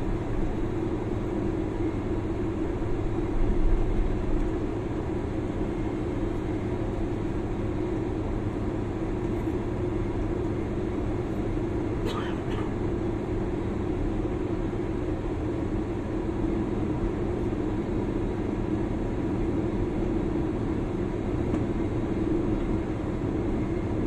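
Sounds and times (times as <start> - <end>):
idling engines rumble and hum: 0.0 - 24.0.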